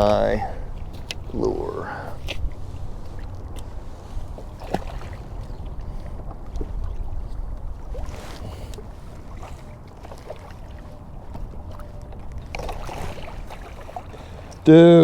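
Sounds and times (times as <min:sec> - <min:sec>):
water lapping against kayak hull: 0:00.0 - 0:14.7
wind rumbling on microphone: 0:00.0 - 0:14.7.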